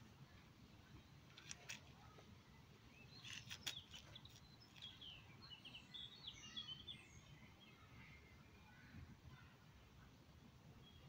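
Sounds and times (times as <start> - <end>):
faint birdsong chirps: 0.0 - 11.0
outdoor background noise: 0.0 - 11.0.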